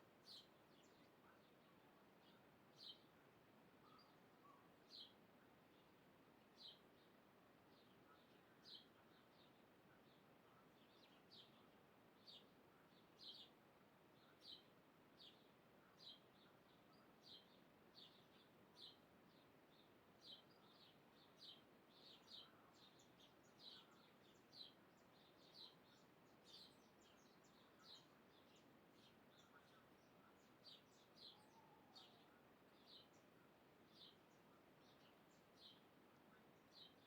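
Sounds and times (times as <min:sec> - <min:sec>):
bird chirping: 0:00.0 - 0:03.2, 0:03.8 - 0:13.6, 0:14.2 - 0:37.0
faint background hiss: 0:00.0 - 0:37.0.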